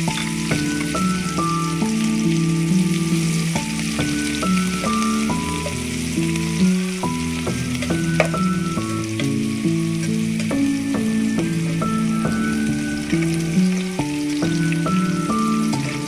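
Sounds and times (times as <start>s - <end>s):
background music: 0.0s - 16.0s
vegetables sizzling in hot oil: 0.0s - 16.0s.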